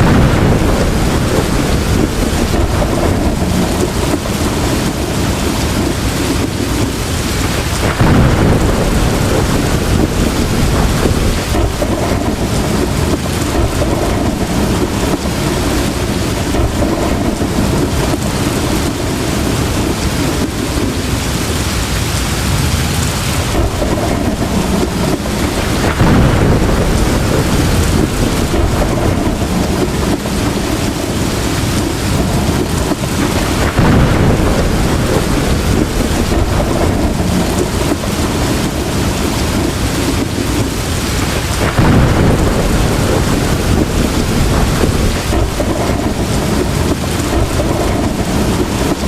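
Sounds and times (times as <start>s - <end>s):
heavy rain pouring: 0.0s - 49.0s
thunder rumbling: 0.0s - 49.0s.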